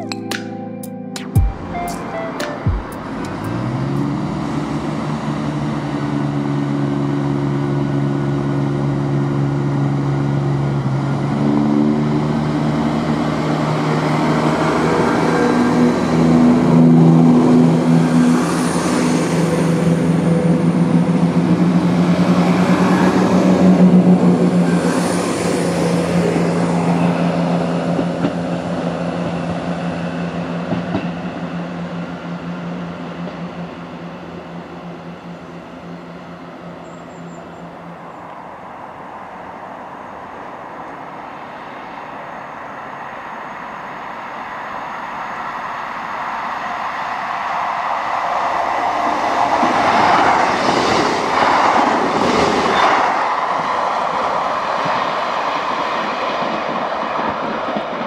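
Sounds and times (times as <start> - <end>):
rushes of passing train noise: 1.5 - 58.0
diesel train engines revving: 1.6 - 58.0.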